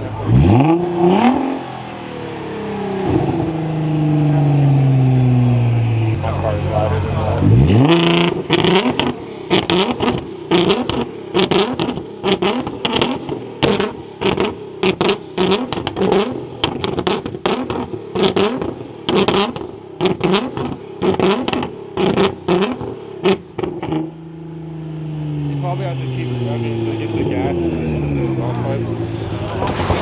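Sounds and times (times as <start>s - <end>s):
car engine revving in blips: 0.0s - 30.0s
exhaust cracks: 0.0s - 30.0s.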